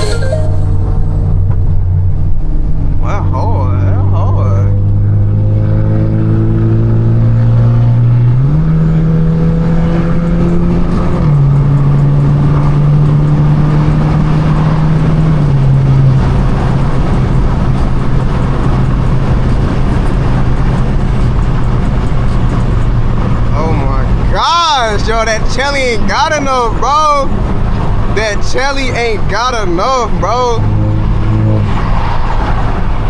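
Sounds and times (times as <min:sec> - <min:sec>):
car exhaust droning: 0:00.0 - 0:33.0
road noise: 0:00.0 - 0:33.0.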